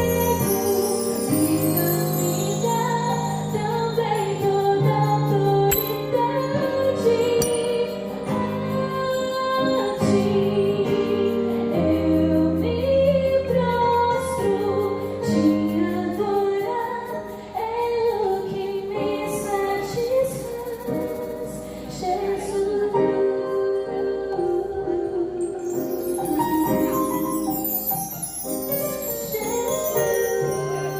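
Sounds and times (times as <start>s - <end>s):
sung melody with accompaniment: 0.0s - 30.9s.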